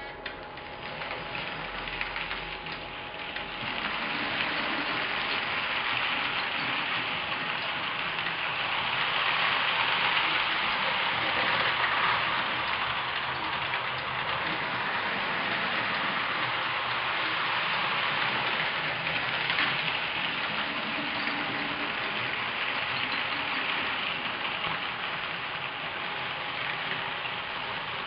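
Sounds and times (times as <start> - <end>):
model steam locomotive hissing: 3.7 - 28.0.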